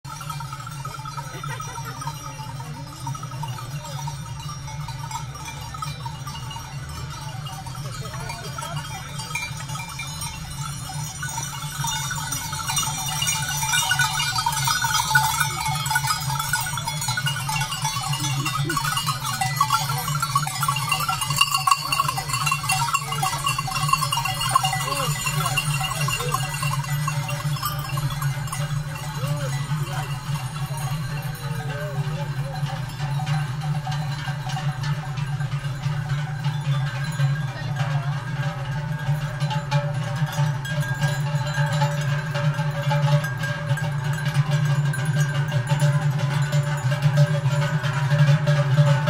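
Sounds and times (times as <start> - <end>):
goat bells jingling: 0.0 - 49.0.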